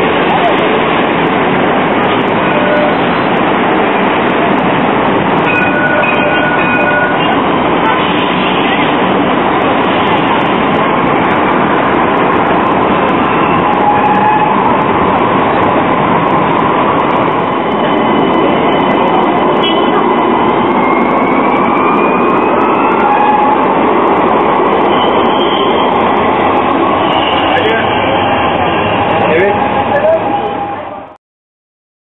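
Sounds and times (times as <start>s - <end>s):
tram rumbling on rails: 0.0s - 31.2s.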